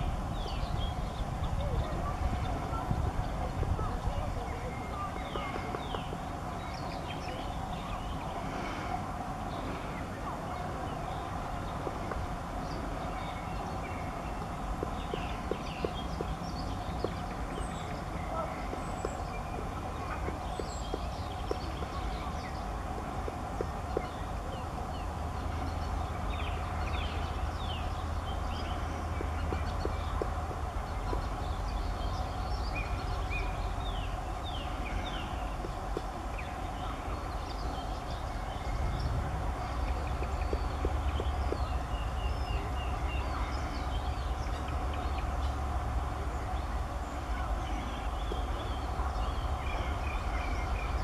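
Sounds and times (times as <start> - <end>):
small birds chirping: 0.0 - 51.0
steady low rumble: 0.0 - 51.0
woodpecker tapping on bark: 1.8 - 7.9, 11.0 - 45.4, 48.0 - 49.2.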